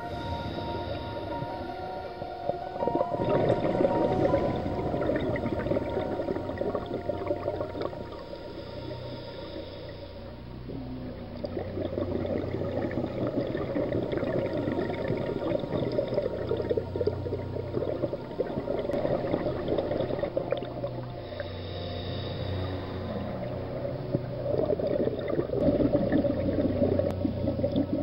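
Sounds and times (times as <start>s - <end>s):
underwater exhaled bubbles: 0.0s - 28.0s.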